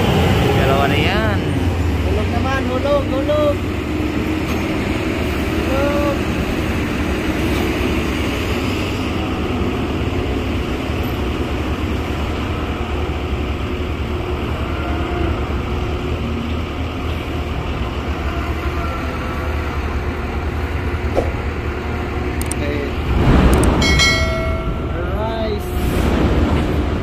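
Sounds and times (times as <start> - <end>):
machinery drone with deep hum: 1.6 - 27.0.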